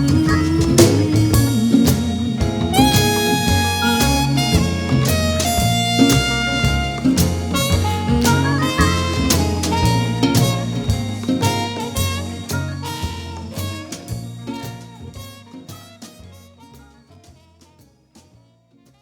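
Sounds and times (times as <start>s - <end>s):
band playing gospel music: 0.0s - 16.8s
drum strokes: 0.0s - 18.3s.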